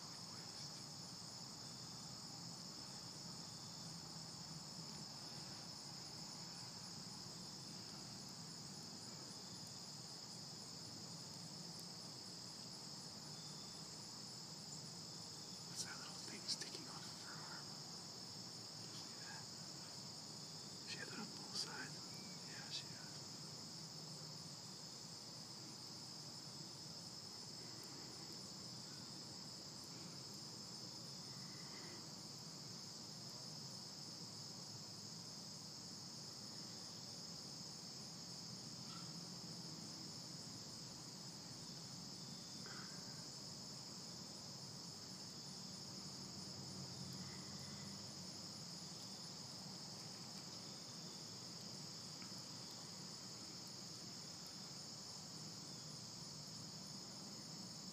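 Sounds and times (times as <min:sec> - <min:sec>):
crickets trilling: 0:00.0 - 0:57.9.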